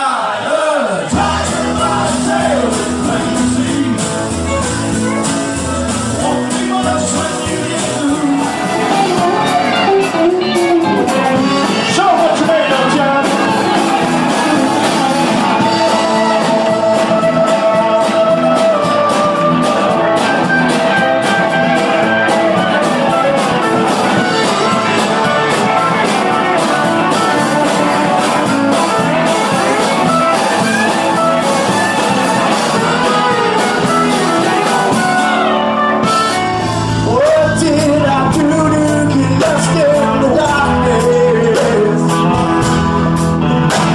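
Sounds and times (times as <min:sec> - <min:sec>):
live country band: 0:00.0 - 0:43.9
person singing: 0:00.0 - 0:43.9
heavy bass: 0:01.1 - 0:43.9.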